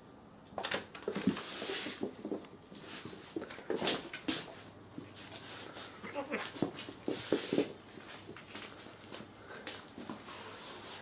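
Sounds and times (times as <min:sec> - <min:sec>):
cats scuffling on wooden floor: 0:00.6 - 0:11.0.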